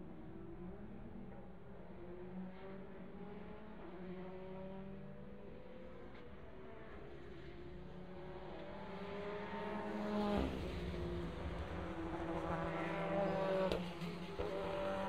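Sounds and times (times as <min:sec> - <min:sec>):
racing cars passing at speed: 0:01.8 - 0:15.0.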